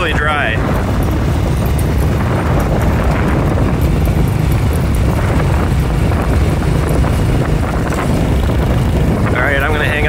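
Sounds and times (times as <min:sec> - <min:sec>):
motorcycle running: 0:00.0 - 0:10.0
wind rumble on microphone: 0:00.0 - 0:10.0.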